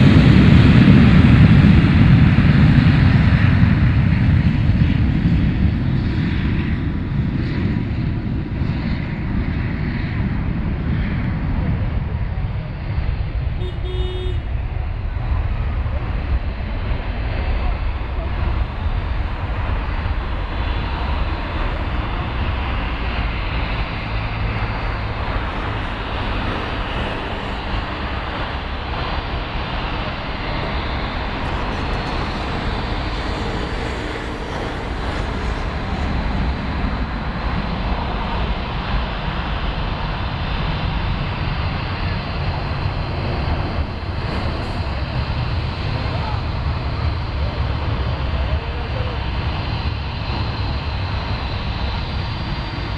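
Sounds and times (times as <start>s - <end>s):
jet engine rumbling: 0.0s - 52.9s.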